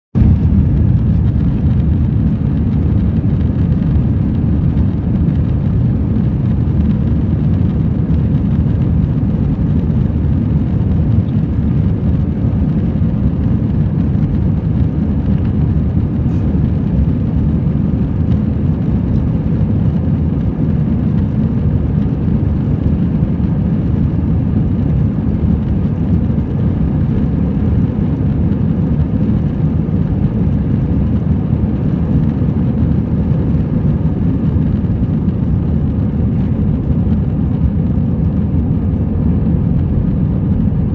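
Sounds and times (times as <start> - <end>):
jet engine and airflow rumble: 0.1 - 40.9.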